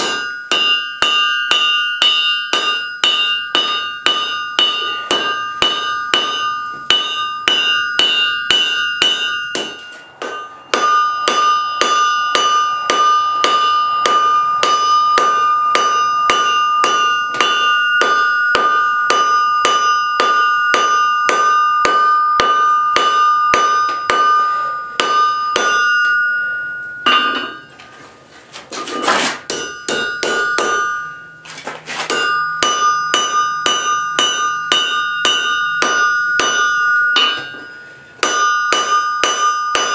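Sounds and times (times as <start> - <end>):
anvil ringing: 0.0 - 27.9, 28.9 - 39.9
hammer striking steel on anvil: 0.0 - 27.9, 28.8 - 39.9.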